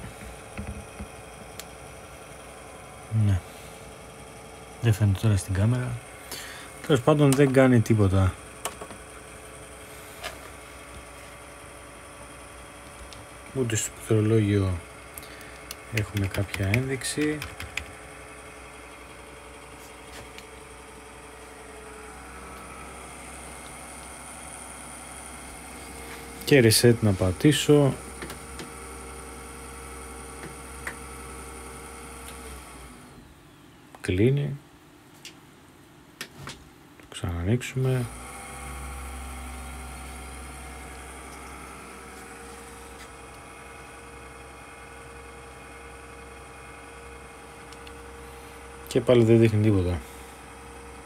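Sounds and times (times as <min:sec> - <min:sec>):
computer fans humming: 0:00.0 - 0:51.0.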